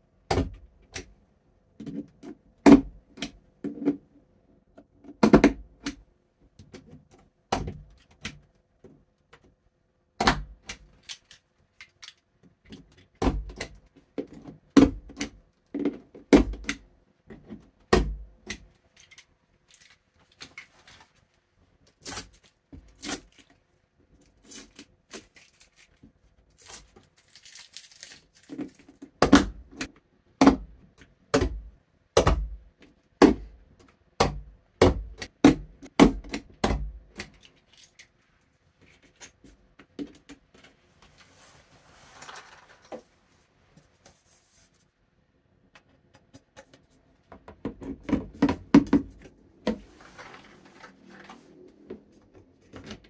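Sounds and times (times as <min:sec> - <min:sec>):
plastic parts clicking and knocking: 0:00.2 - 0:38.2, 0:38.8 - 0:40.9, 0:45.5 - 0:49.9.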